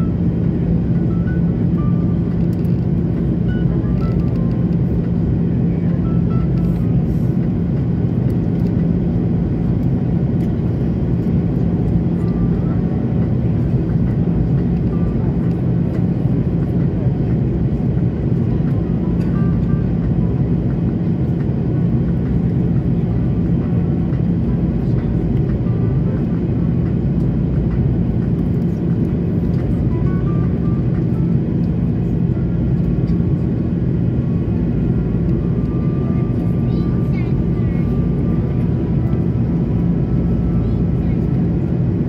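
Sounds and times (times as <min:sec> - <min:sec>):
engine and airflow rush: 0:00.0 - 0:42.0
low steady hum: 0:00.0 - 0:42.0.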